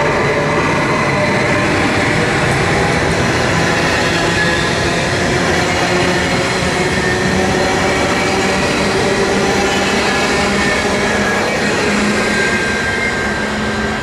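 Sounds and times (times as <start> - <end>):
train wheels rolling on rails: 0.0 - 14.0.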